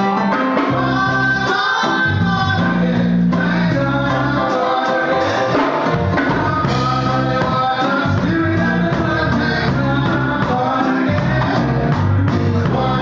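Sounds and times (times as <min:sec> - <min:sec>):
live band with singing: 0:00.0 - 0:13.0.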